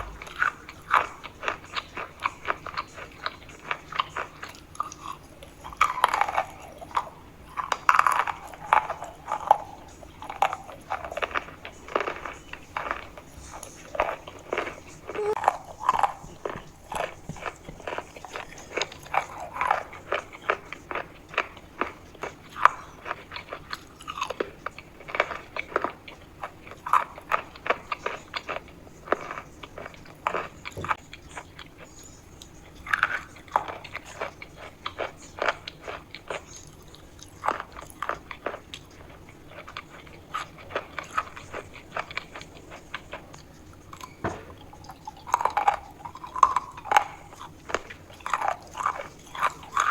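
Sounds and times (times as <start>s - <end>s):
crunchy chalk chewing: 0.0s - 49.9s.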